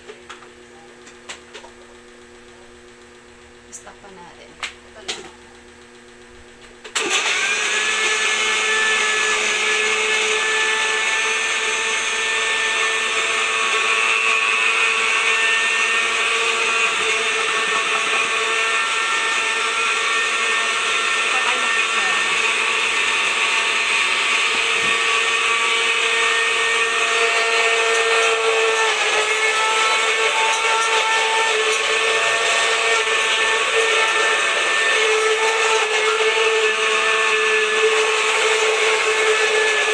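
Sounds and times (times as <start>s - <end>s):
electric blender whining: 6.8s - 39.9s.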